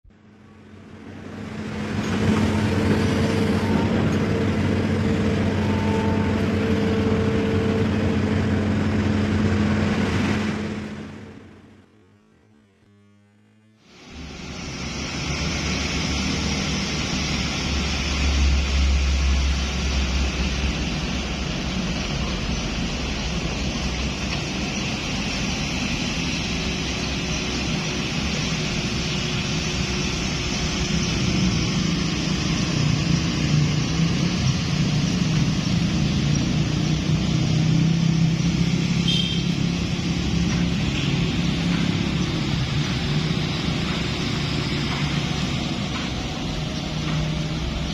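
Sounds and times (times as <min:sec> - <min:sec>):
excavator diesel engine running: 0:00.1 - 0:12.5, 0:13.8 - 0:47.9.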